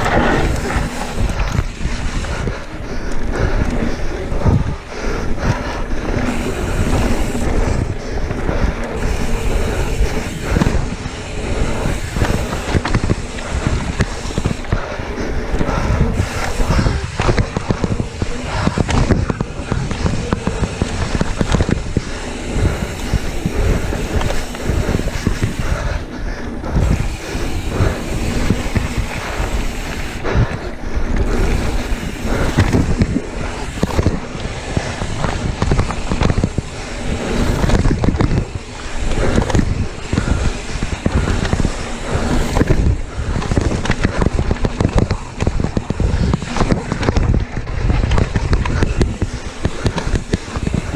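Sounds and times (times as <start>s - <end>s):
bike rattling over bumps: 0.0s - 50.9s
tyre roar on dirt: 0.0s - 50.9s
wind buffeting microphone: 0.0s - 50.9s.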